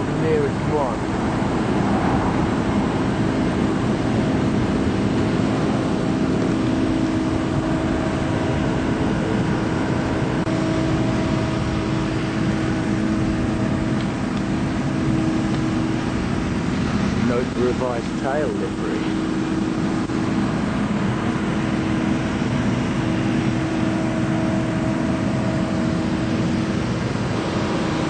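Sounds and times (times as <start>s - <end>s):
machinery droning: 0.0s - 28.0s.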